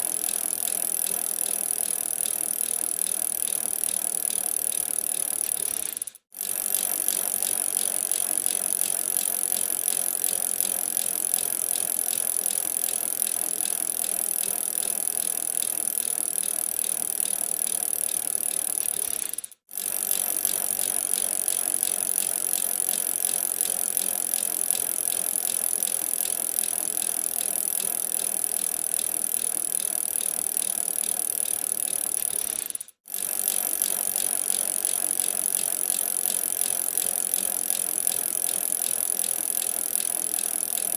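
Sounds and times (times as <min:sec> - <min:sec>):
bicycle rapid mechanical ticking: 0:00.0 - 0:40.9.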